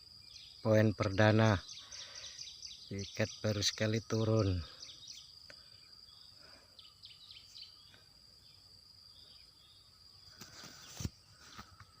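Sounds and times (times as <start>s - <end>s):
high insect whine: 0.0s - 12.0s.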